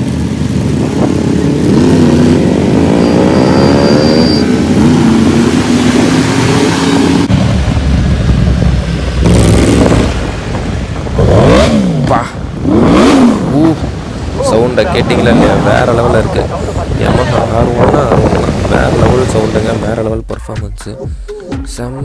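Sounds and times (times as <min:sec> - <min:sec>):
motorcycle engine accelerating: 0:00.0 - 0:19.6
steady rushing noise: 0:00.0 - 0:20.2.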